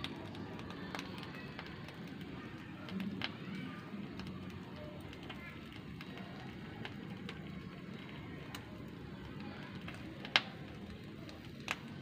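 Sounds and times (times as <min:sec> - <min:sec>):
coals crackling and popping: 0:00.0 - 0:12.0
fish grilling over charcoal: 0:00.0 - 0:12.0.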